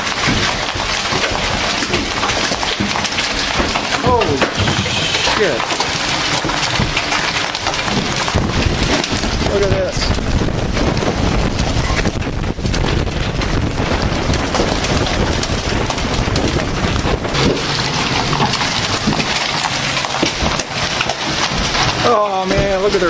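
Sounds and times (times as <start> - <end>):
hailstones and heavy rain clattering: 0.0 - 23.0
wind: 0.0 - 23.0.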